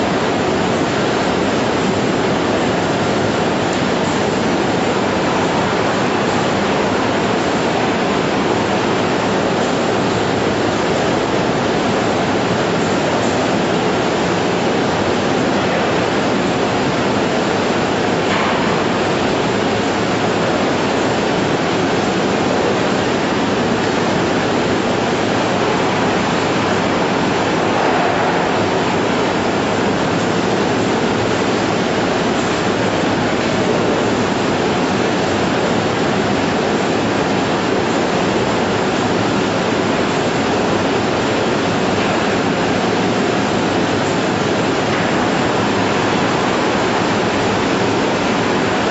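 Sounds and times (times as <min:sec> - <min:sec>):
processing machinery rushing noise: 0:00.0 - 0:48.9.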